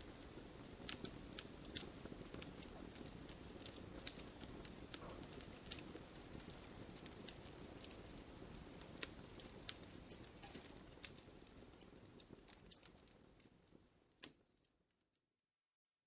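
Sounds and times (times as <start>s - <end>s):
low rush of flames: 0.0s - 14.4s
wood crackling and popping: 0.0s - 15.1s.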